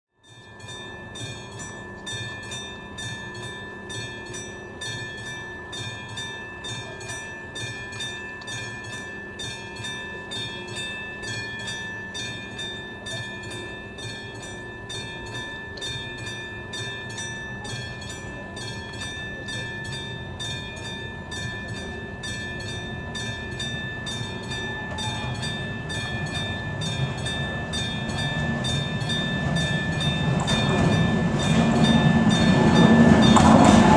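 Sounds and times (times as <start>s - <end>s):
diesel locomotive engine: 0.2s - 33.9s.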